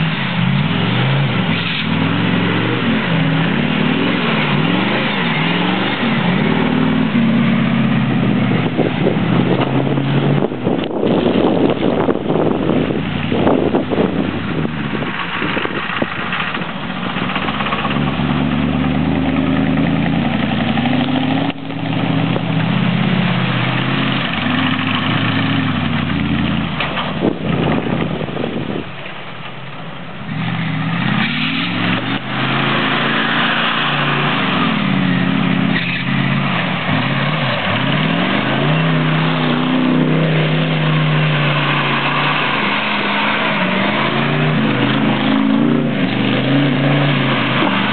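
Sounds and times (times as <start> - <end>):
truck engine revving: 0.0 - 28.8, 30.0 - 47.9.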